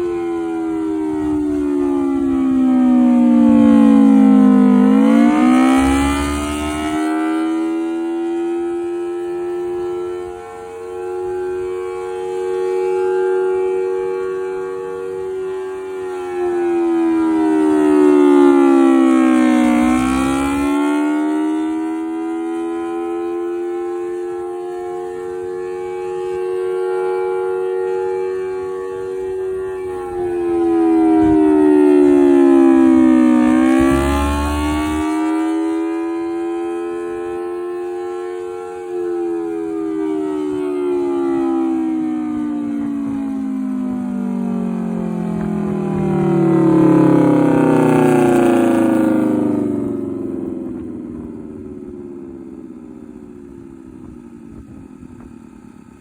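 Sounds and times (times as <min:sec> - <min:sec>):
civil defense siren wailing: 0:00.0 - 0:56.0.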